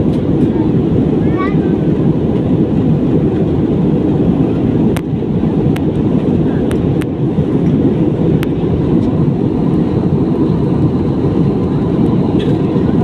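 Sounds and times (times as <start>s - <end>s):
airliner engines and airflow rumble: 0.0s - 13.0s.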